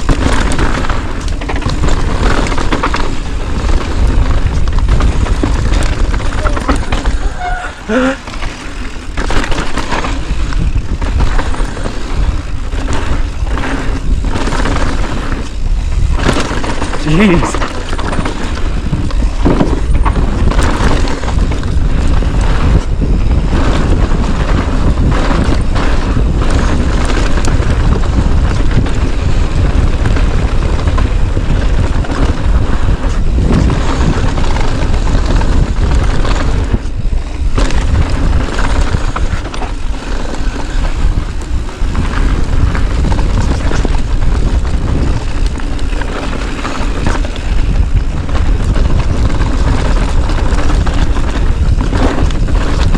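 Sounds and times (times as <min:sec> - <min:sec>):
bike rattling over rough ground: 0:00.0 - 0:52.9
low rumble of bike riding: 0:00.0 - 0:52.9
wind buffeting microphone: 0:00.0 - 0:52.9.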